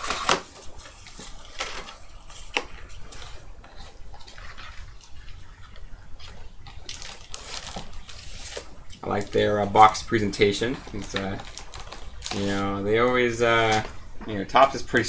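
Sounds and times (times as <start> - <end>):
card packs rustling: 0.0 - 15.0
foil crinkle: 0.0 - 15.0.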